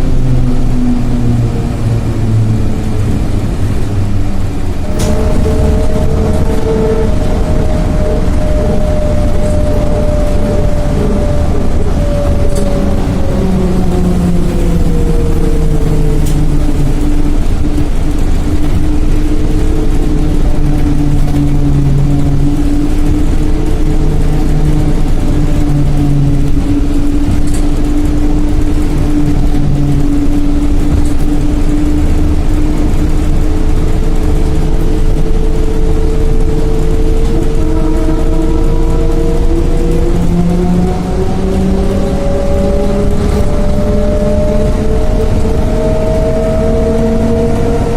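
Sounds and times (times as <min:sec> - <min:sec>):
electric traction motor whining: 0:00.0 - 0:47.9
low rumble of the ride: 0:00.0 - 0:47.9.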